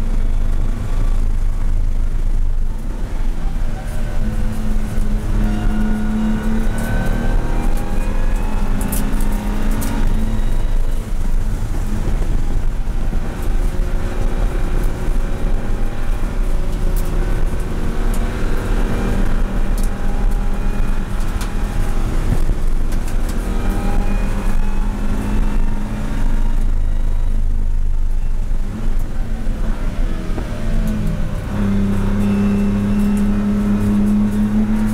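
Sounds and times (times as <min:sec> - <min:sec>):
car engine at speed: 0:00.0 - 0:34.9.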